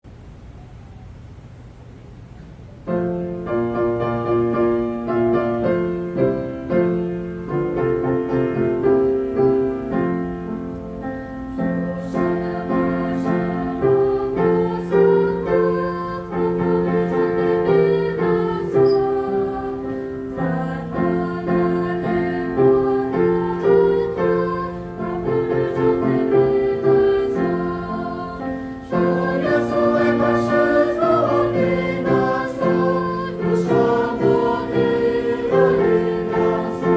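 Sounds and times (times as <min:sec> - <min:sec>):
choir singing a hymn: 0:03.4 - 0:36.9.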